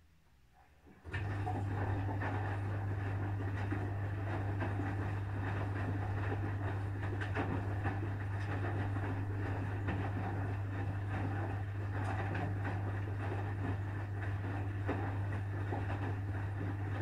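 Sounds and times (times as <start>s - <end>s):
washing machine running: 0.6s - 17.0s.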